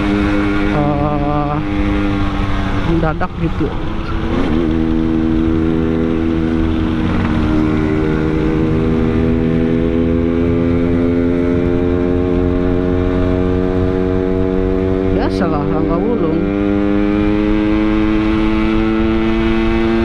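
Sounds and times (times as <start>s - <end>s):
road rumble: 0.0s - 20.0s
two-stroke motorcycle engine cruising: 0.0s - 20.0s
wind: 0.0s - 20.0s.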